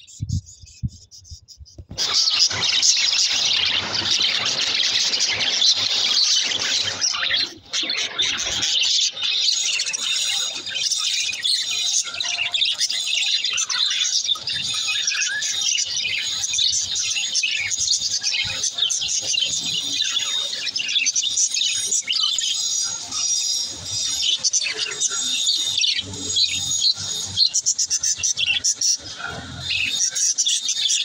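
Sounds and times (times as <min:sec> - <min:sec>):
budgerigars chattering and warbling: 0:01.8 - 0:31.0.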